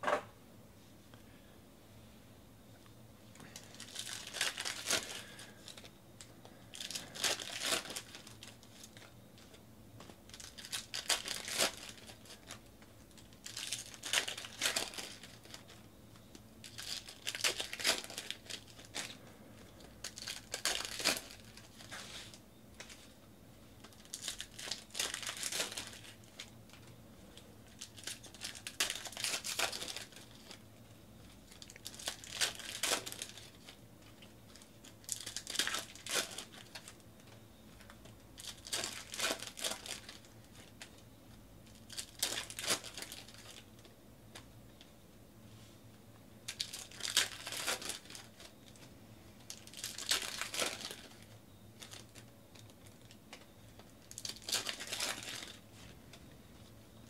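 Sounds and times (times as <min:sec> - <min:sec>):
card pack wrappers crinkling: 0:03.4 - 0:23.2, 0:23.8 - 0:44.9, 0:46.4 - 0:57.0.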